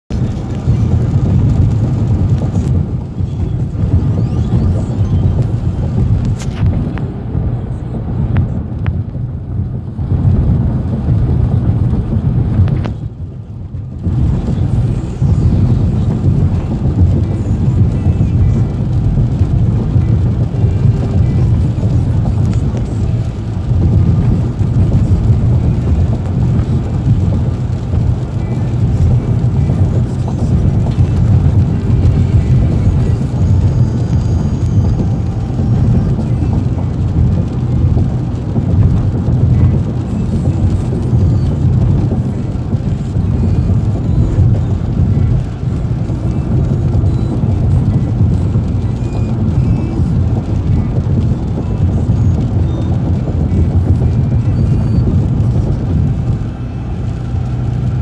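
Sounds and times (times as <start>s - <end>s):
tyre and road noise: 0.0s - 58.0s.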